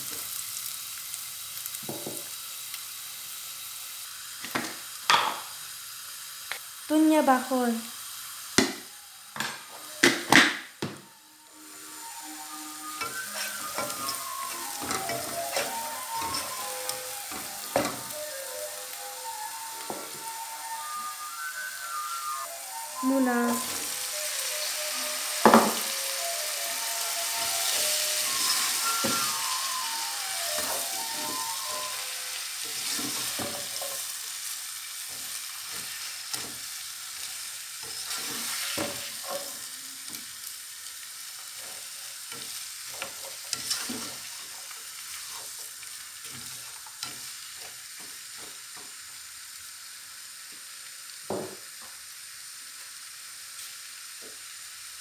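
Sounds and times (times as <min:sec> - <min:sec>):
radish sizzling in hot oil: 0:00.0 - 0:55.0.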